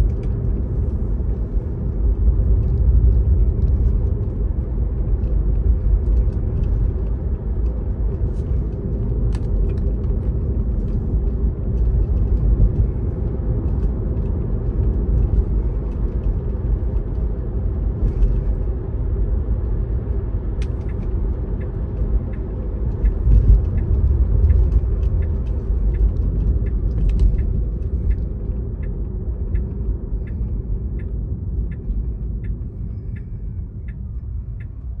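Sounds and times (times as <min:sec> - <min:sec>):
car rumble from inside cabin: 0:00.0 - 0:35.0
turn signal ticking: 0:00.0 - 0:35.0.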